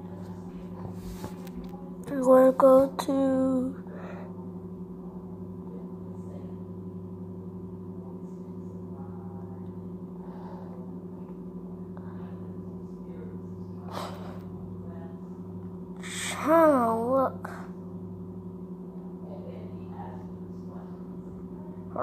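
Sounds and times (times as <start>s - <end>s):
low hum of fixed tones: 0.0s - 22.0s.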